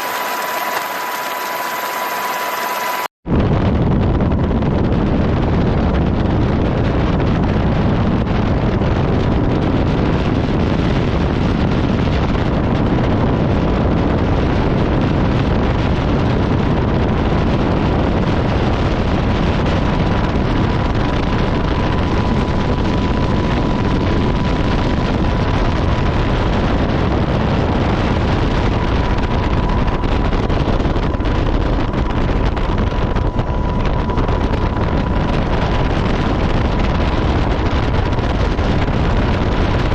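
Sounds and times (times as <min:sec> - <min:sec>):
faint steady whine: 0:00.0 - 0:39.9
wind buffeting microphone: 0:03.3 - 0:39.9.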